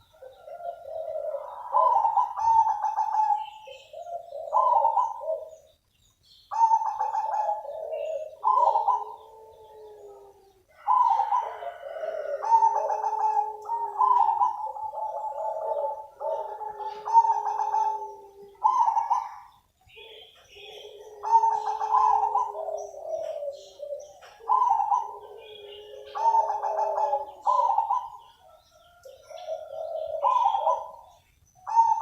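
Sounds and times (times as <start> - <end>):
dove cooing: 0.0 - 5.8, 6.5 - 32.0.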